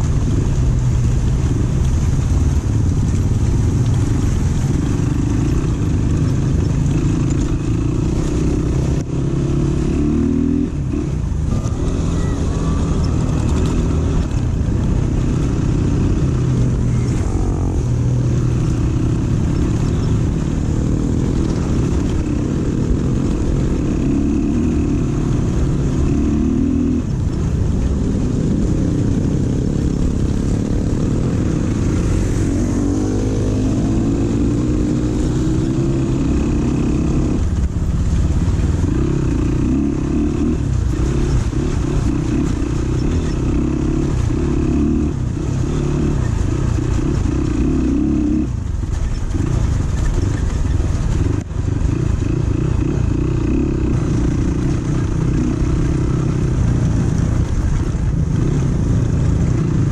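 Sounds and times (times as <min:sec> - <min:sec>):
dirt bike engine revving: 0:04.6 - 0:27.4, 0:28.0 - 0:37.6, 0:38.8 - 0:48.7, 0:51.2 - 0:57.4.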